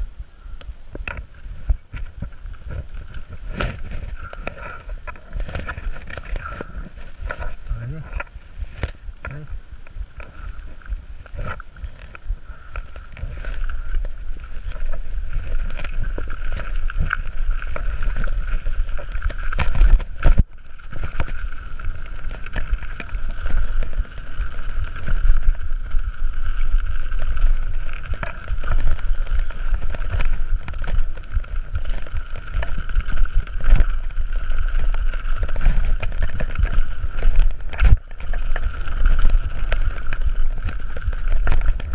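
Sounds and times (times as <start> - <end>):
bike knocking and rattling: 0.0 - 41.9
bike tyres on dirt: 0.0 - 41.9
wind rumble on microphone: 0.0 - 41.9.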